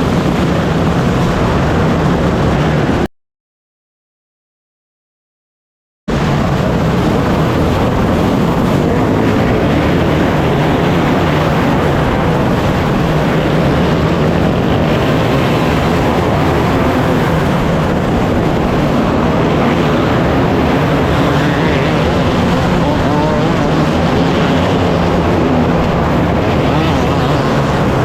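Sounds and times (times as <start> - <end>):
race car engines: 0.0 - 3.1, 6.1 - 28.0.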